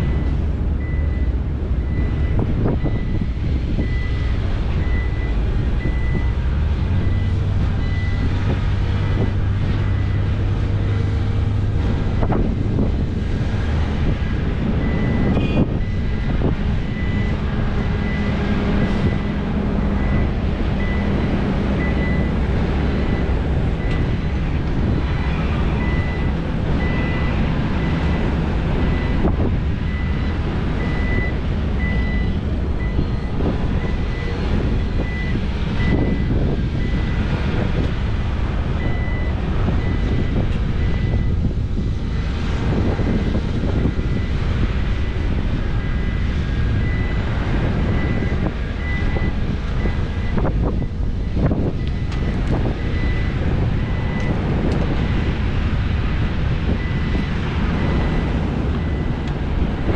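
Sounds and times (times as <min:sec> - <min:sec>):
reversing alarm beeping: 0:00.0 - 0:06.4, 0:07.0 - 0:11.3, 0:14.7 - 0:24.3, 0:24.9 - 0:37.9, 0:38.8 - 0:41.5, 0:42.8 - 0:55.4, 0:56.6 - 0:59.3
excavator diesel engine under load: 0:00.0 - 0:59.9.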